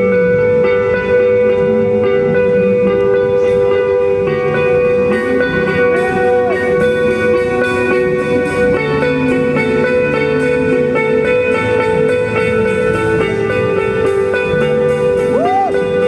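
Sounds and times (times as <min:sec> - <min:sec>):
post-rock band playing live: 0:00.0 - 0:16.0.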